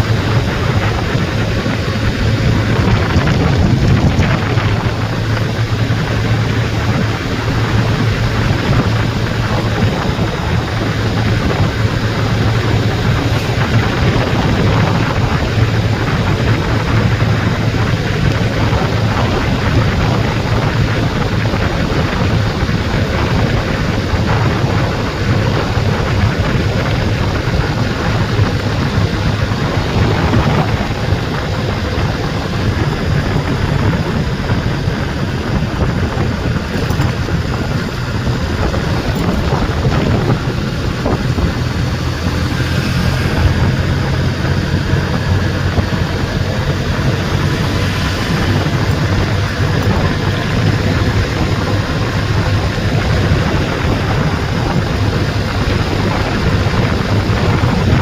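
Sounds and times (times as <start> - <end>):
low steady rumble: 0.0 - 58.0
wind noise on microphone: 0.0 - 58.0.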